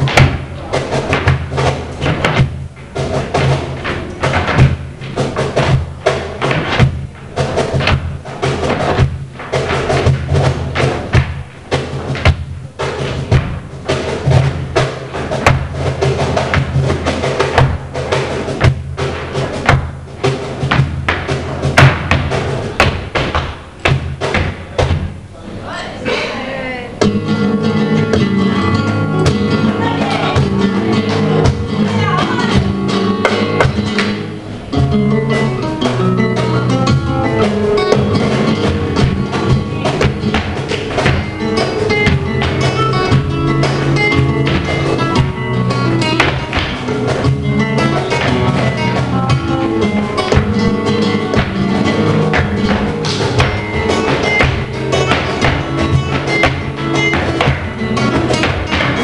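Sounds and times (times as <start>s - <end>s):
sharp percussive taps: 0.0s - 25.2s, 31.4s - 34.3s, 35.8s - 59.0s
flamenco guitar playing: 0.0s - 59.0s.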